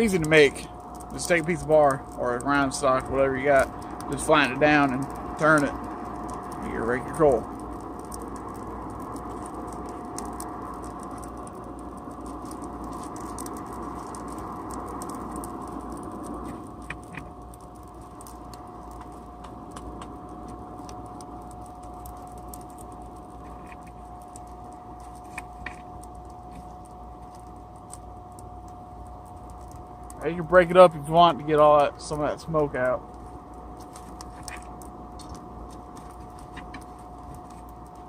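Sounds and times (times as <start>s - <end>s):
coal fire crackling as raked: 0.0s - 38.0s
forge air blower whining: 0.0s - 38.0s.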